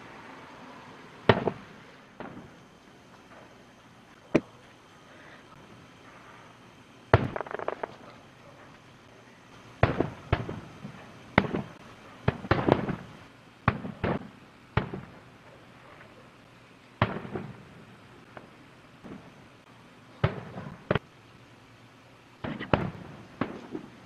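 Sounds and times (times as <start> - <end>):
fireworks bursting with echoes: 1.1 - 4.6, 5.5 - 21.2, 22.4 - 24.0.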